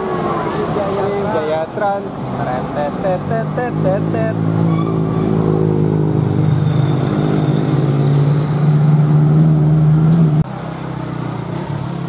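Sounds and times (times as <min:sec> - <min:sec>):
heavy diesel bus engine: 0:00.0 - 0:12.0.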